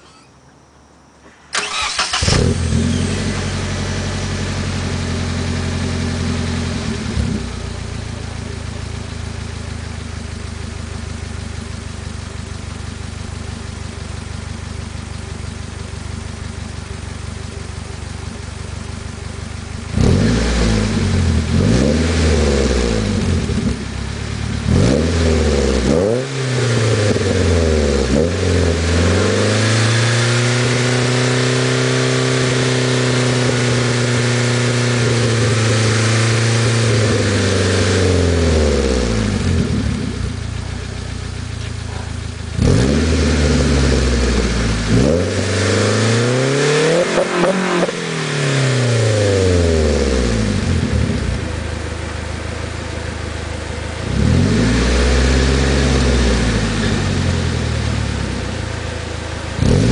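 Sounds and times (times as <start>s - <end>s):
car engine starting and revving: 1.5s - 17.4s, 18.2s - 59.9s.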